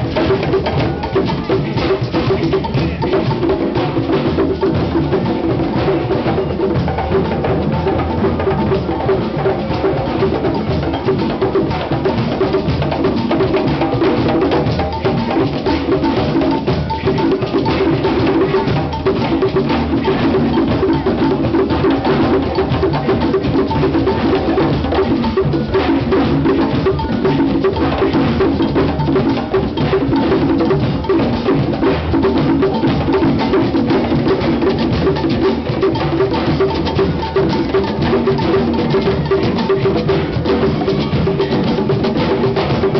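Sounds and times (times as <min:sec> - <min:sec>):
hand drums playing: 0:00.0 - 0:42.9.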